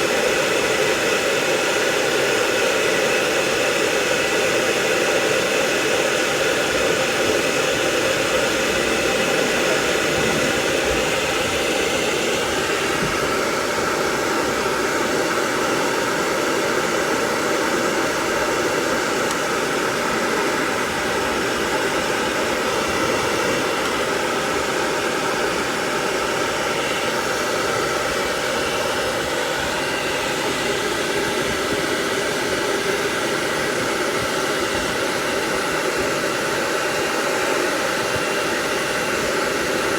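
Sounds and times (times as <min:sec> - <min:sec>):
dryer blowing air: 0:00.0 - 0:39.9.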